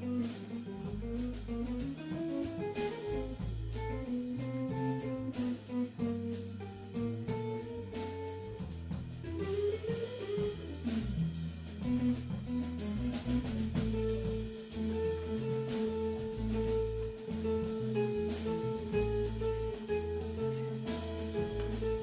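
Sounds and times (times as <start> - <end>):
bass notes: 0.0 - 22.0
drum and cymbal hits: 0.0 - 22.0
guitar melody: 0.0 - 22.0.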